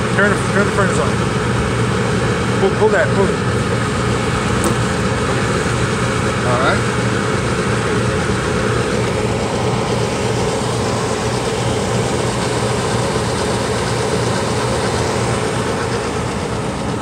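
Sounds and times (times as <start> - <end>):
gas furnace humming: 0.0 - 17.0.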